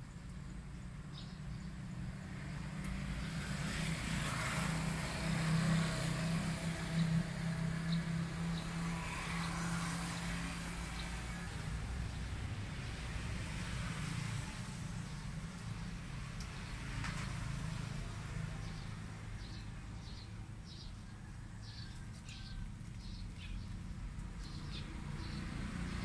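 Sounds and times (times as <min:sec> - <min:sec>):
vehicle engine passing: 0:01.2 - 0:26.0.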